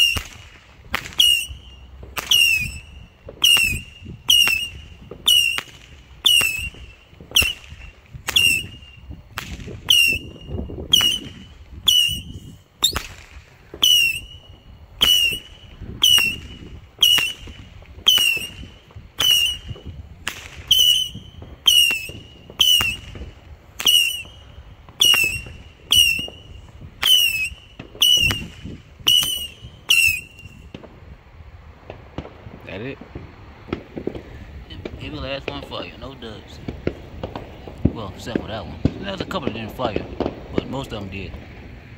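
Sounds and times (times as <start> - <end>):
sharp crack and whistle: 0.0 - 31.0, 31.8 - 41.4.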